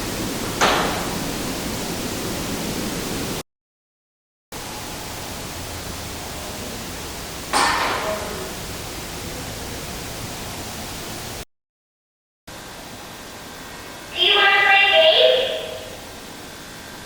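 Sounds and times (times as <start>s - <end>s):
loud static hiss: 0.0s - 3.4s, 4.6s - 11.4s, 12.5s - 17.0s.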